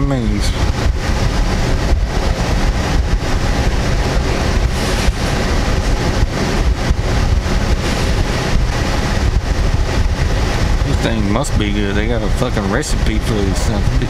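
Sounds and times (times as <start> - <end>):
car idling: 0.0 - 14.0
wind buffeting microphone: 0.0 - 14.0.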